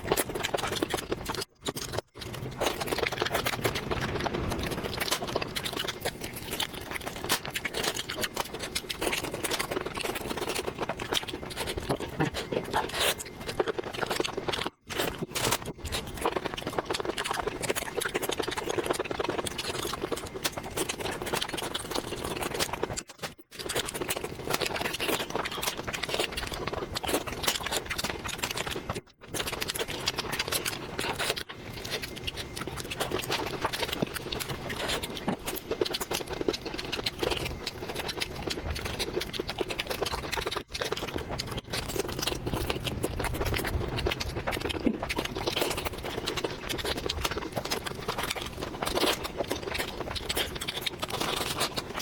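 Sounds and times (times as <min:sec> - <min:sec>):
chewing and mouth clicks: 0:00.0 - 0:52.0.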